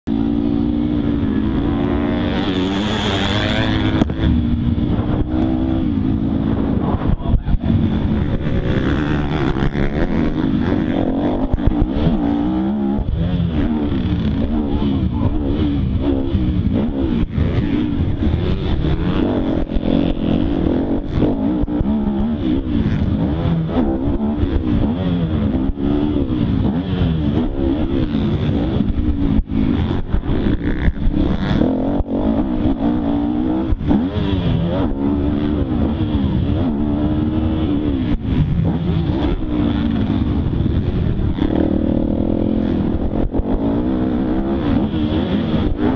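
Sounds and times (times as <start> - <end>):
dirt bike engine revving: 0.1 - 45.9.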